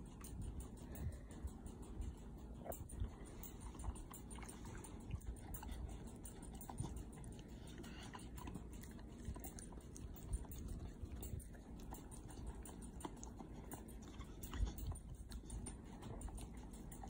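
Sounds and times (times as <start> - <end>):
dog licking and lip-smacking: 0.0 - 17.0.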